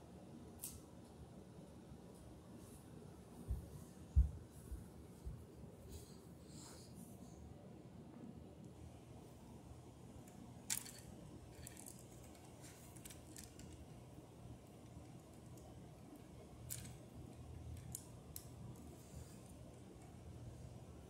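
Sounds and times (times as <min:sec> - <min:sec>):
faint room hum: 0:00.0 - 0:21.0.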